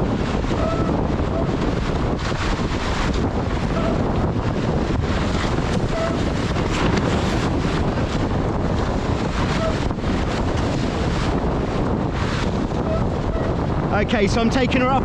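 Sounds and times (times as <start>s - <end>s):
water rushing along hulls: 0.0s - 15.0s
wind buffeting microphone: 0.0s - 15.0s.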